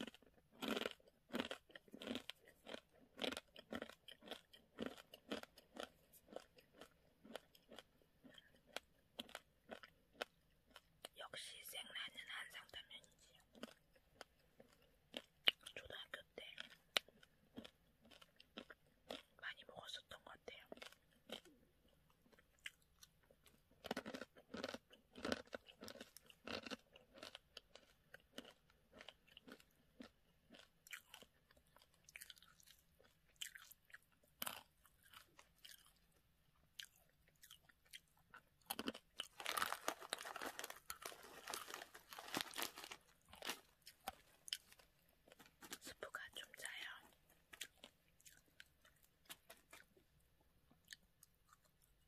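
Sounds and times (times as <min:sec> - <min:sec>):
crunching dry noodles: 0:00.0 - 0:11.1, 0:13.4 - 0:15.7, 0:16.5 - 0:19.4, 0:20.7 - 0:52.0.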